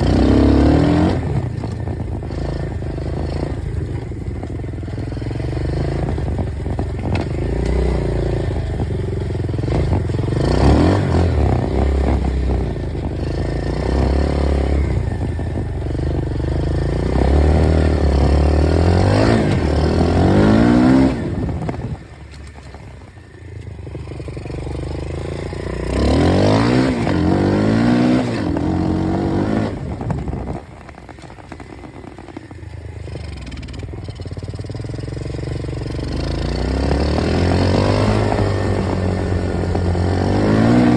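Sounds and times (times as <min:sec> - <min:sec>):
dirt bike engine revving: 0:00.0 - 0:22.2, 0:24.0 - 0:30.7, 0:33.0 - 0:40.9.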